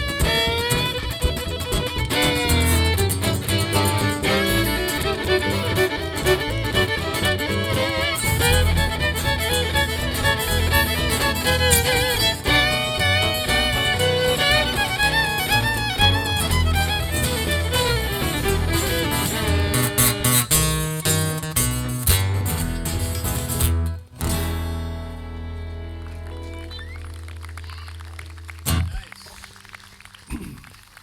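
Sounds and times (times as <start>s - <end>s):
fiddle melody with vibrato: 0.0s - 21.5s, 22.8s - 27.2s
bass line: 0.0s - 29.1s.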